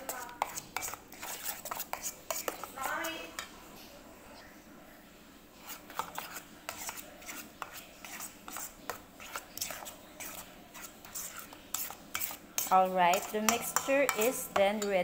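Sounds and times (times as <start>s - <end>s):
utensil stirring batter in bowl: 0.0s - 4.5s, 5.4s - 15.0s.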